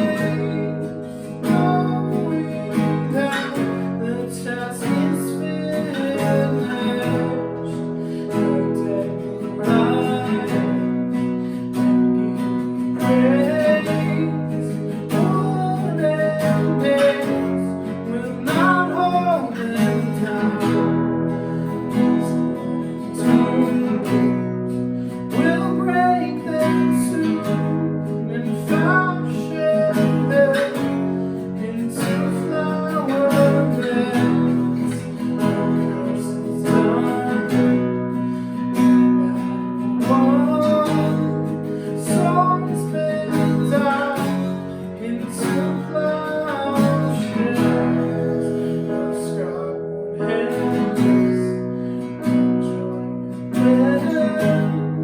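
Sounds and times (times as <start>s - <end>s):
acoustic guitar strumming: 0.0s - 55.0s
person singing: 0.0s - 55.0s.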